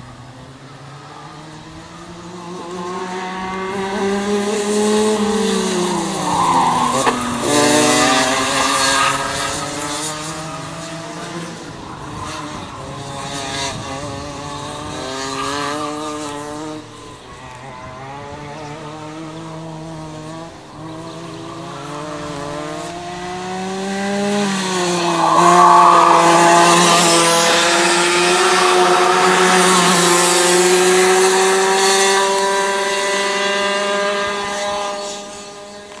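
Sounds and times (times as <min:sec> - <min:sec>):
go-kart engine accelerating past: 0:00.0 - 0:36.0.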